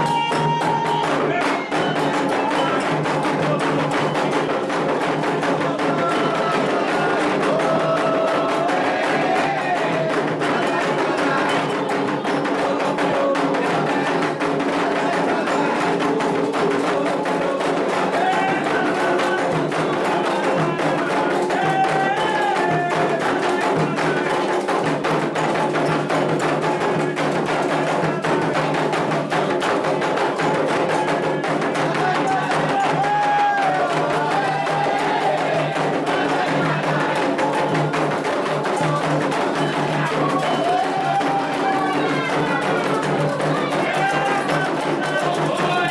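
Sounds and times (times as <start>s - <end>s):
call-and-response singing: 0.0s - 45.9s
hand drums rhythm: 0.0s - 45.9s.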